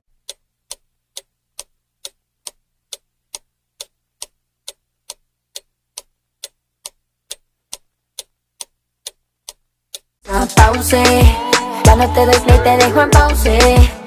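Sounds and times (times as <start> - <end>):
clock ticking: 0.1 - 14.0.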